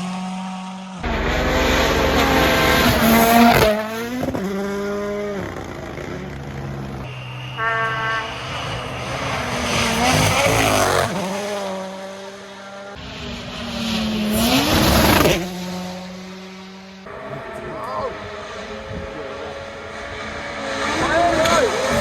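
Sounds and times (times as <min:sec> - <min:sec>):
rally cars passing at speed: 0:00.0 - 0:22.0.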